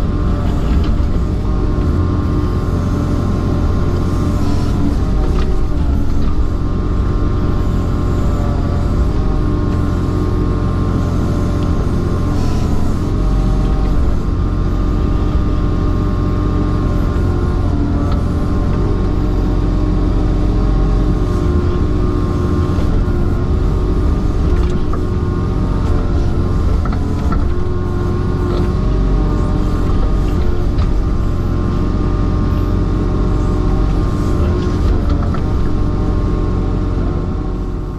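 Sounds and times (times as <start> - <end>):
excavator diesel engine running: 0.0 - 37.9
hydraulic whine: 0.0 - 37.9.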